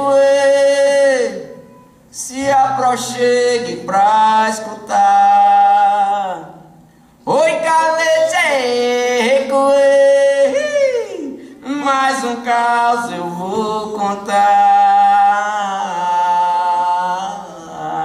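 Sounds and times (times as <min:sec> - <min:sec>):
man singing long notes: 0:00.0 - 0:18.0.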